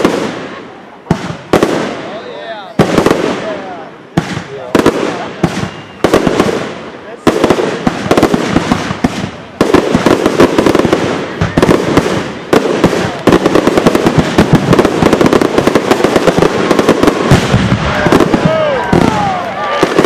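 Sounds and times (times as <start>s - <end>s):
fireworks crackling bangs: 0.0s - 20.0s.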